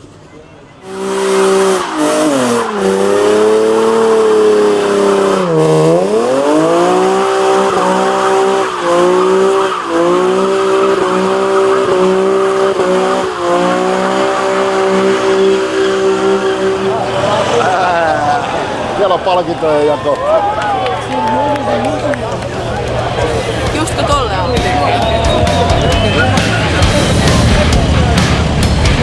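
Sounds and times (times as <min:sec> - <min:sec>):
tire squeal: 0:00.4 - 0:20.8, 0:21.4 - 0:27.7
car engine revving: 0:00.8 - 0:20.0, 0:21.4 - 0:29.0.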